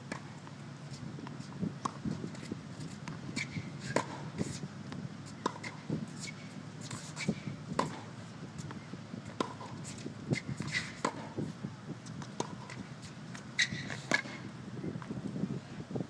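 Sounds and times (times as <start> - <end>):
tennis balls struck by rackets: 1.2 - 15.4.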